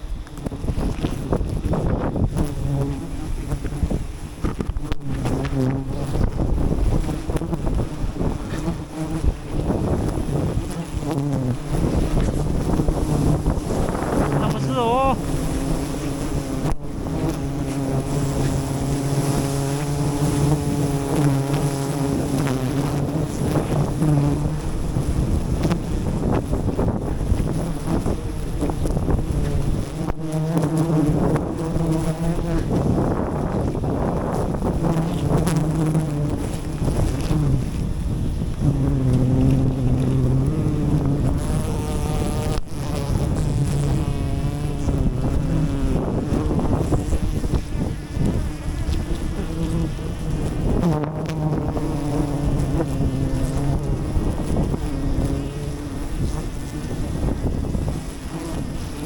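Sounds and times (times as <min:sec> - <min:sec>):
bees buzzing: 0:00.0 - 0:59.0
wind noise on microphone: 0:00.0 - 0:59.0.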